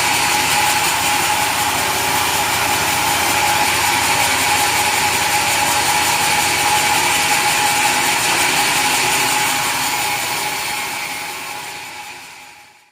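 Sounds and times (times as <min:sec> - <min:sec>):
sawmill saw cutting wood: 0:00.0 - 0:12.9.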